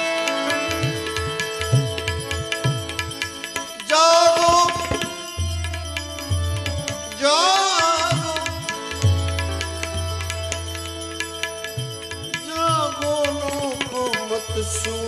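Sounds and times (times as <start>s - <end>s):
devotional music: 0.0s - 15.0s
ornamented gliding melodic phrases: 0.0s - 15.0s
tabla playing: 0.0s - 15.0s.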